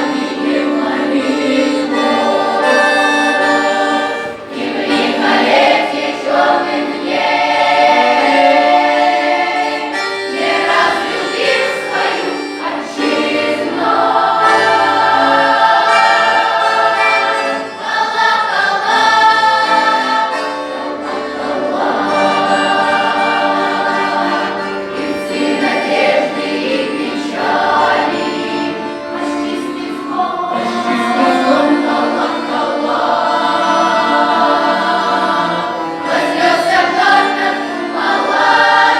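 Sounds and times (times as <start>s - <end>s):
choir singing folk song: 0.0s - 38.9s.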